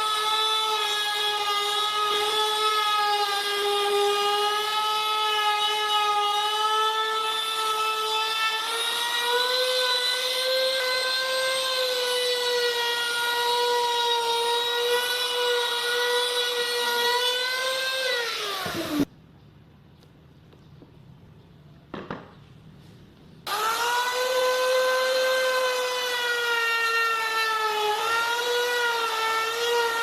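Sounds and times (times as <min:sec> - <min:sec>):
power tool motor whining: 0:00.0 - 0:19.1, 0:23.5 - 0:30.0.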